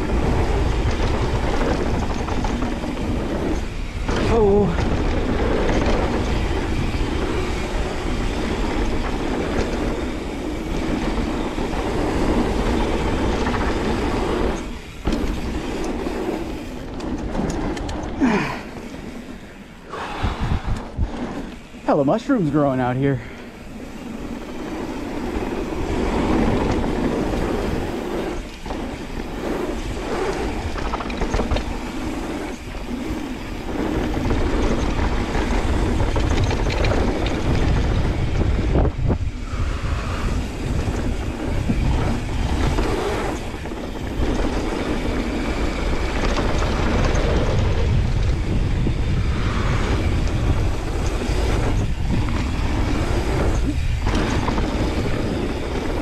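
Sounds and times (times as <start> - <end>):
bike knocks and rattles: 0.0 - 19.5, 23.2 - 56.0
tyre noise on dirt: 0.0 - 56.0
wind buffeting microphone: 0.0 - 56.0.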